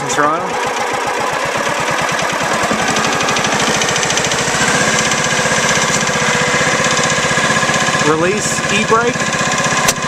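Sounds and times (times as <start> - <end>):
small petrol engine running: 0.0 - 10.0.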